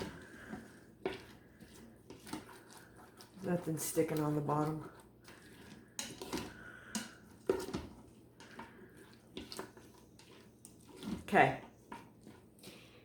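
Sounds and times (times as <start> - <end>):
spoon scraping metal pot: 0.0 - 12.7.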